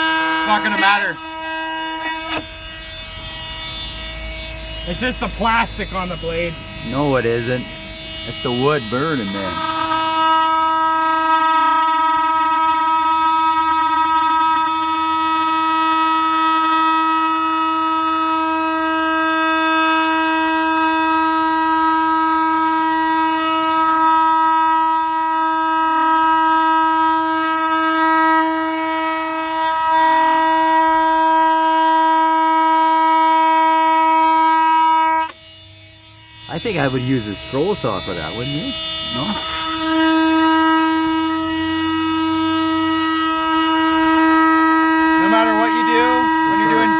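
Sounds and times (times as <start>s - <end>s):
multitool high-pitched buzz: 0.0s - 46.9s.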